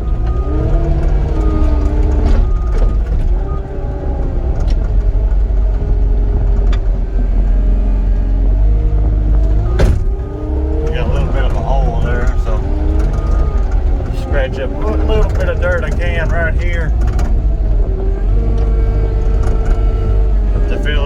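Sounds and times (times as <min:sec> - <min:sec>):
engine running under load: 0:00.0 - 0:21.0
sharp engine knocks: 0:00.0 - 0:21.0.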